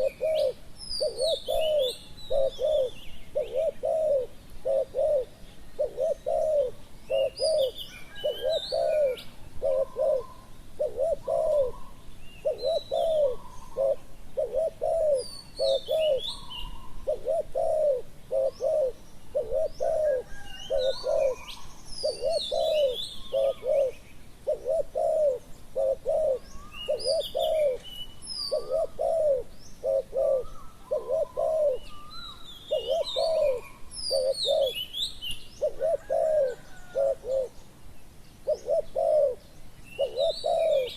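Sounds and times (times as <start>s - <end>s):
doves cooing: 0.0s - 35.0s, 35.6s - 37.6s, 38.4s - 40.9s
small birds chirping: 0.0s - 40.9s.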